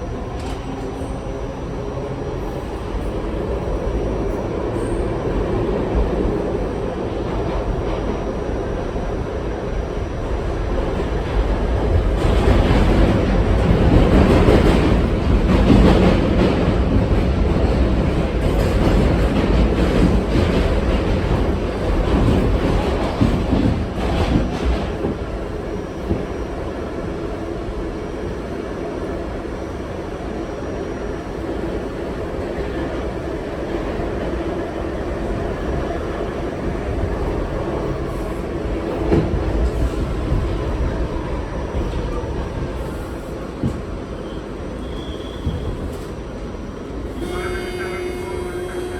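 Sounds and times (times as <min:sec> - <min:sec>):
subway train rumbling on track: 0:00.0 - 0:48.9.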